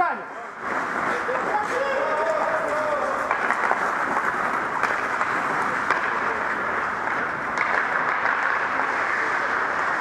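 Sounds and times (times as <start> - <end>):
skates scraping on ice: 0.4 - 10.0
hockey sticks and puck clacking: 0.6 - 10.0.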